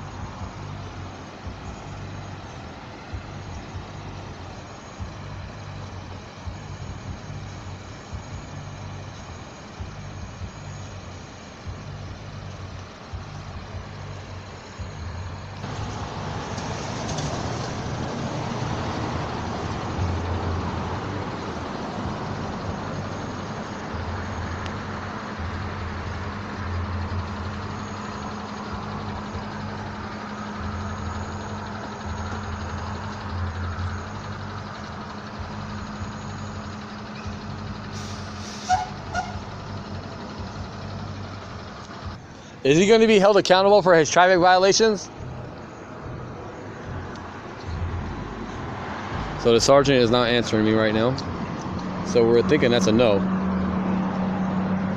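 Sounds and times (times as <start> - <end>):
engine hum: 0.0 - 54.9
traffic noise: 0.0 - 54.9.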